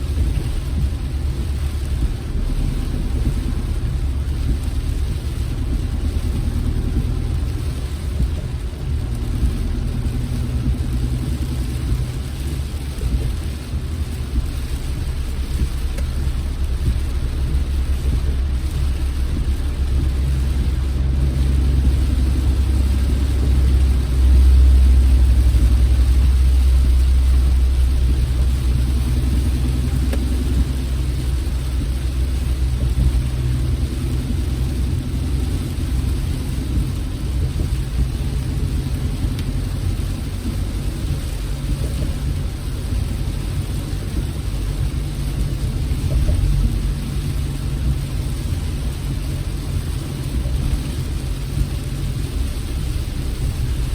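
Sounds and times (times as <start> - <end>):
car engine and road noise: 0.0 - 53.9.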